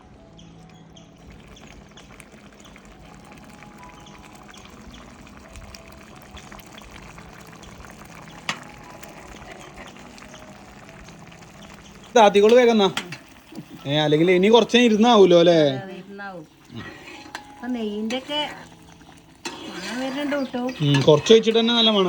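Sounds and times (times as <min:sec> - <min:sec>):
pudding bubbling in a pan: 0:00.1 - 0:22.0.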